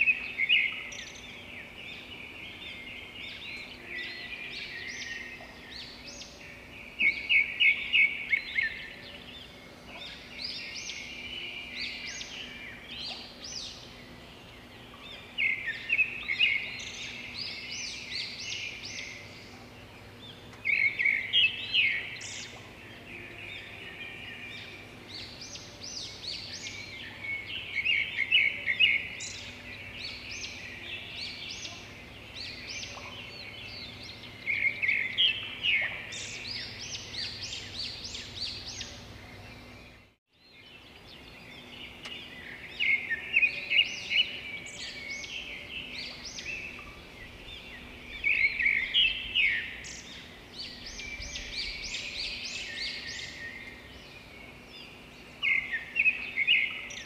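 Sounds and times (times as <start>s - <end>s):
faint steady hum: 0.0s - 57.0s
songbirds chirping and singing: 0.0s - 57.0s.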